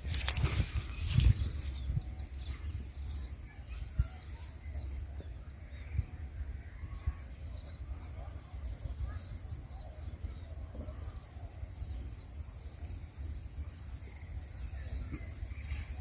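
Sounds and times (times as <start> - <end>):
birds chirping: 0.0 - 16.0
low wind rumble: 0.0 - 16.0.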